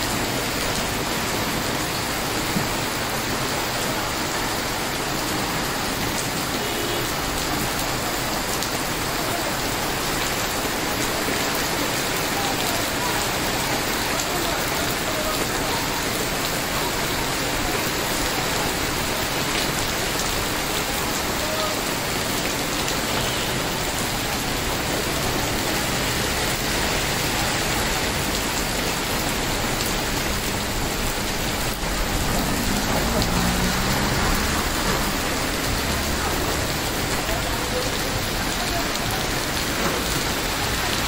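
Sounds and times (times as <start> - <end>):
heavy rain on wet pavement: 0.0 - 41.0.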